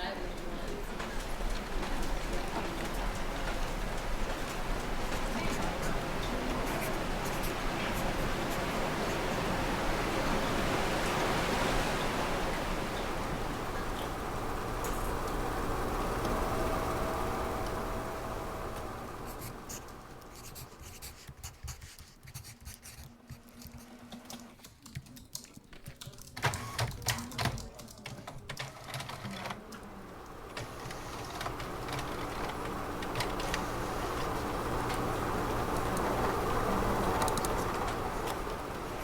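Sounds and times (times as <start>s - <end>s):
office background hum: 0.0s - 39.0s.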